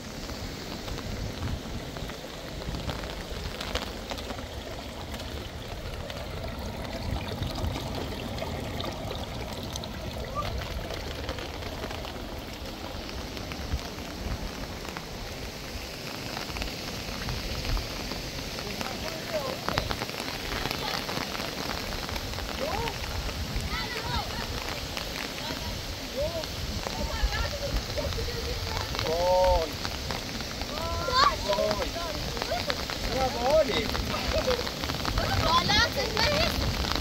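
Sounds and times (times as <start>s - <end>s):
sharp raindrop hits: 0.0s - 37.0s
steady rain falling: 0.0s - 37.0s.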